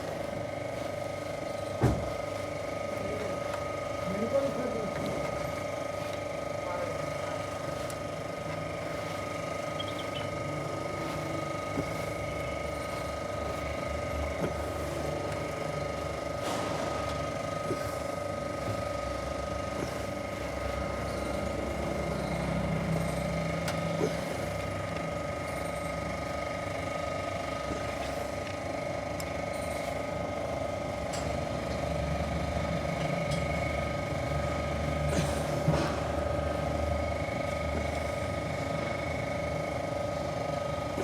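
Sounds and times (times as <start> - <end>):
mechanical hum with tones: 0.0 - 41.0.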